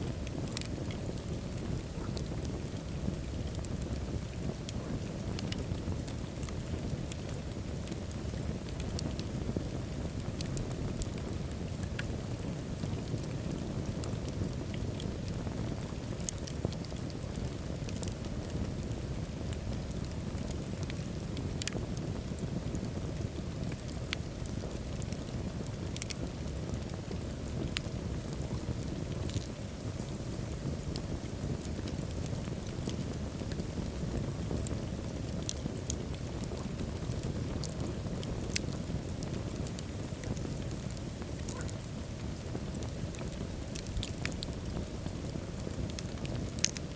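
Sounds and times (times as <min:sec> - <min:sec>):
low rumble of flames: 0:00.0 - 0:46.9
wood fire crackles and pops: 0:00.0 - 0:46.9.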